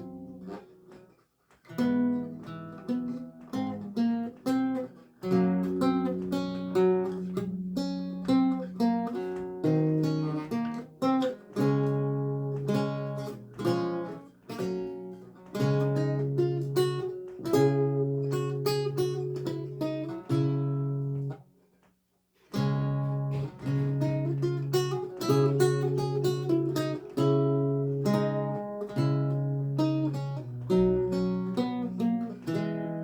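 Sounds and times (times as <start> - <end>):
solo lute music: 0.0 - 33.0.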